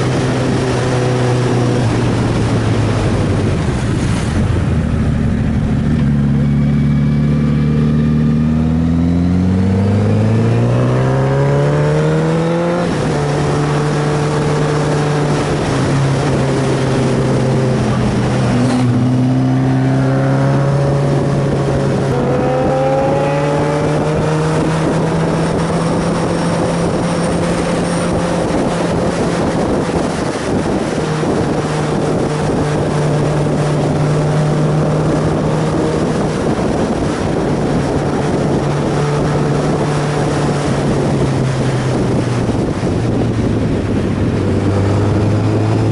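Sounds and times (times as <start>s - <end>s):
motorcycle engine accelerating: 0.0s - 45.9s
rush of wind noise: 0.0s - 45.9s.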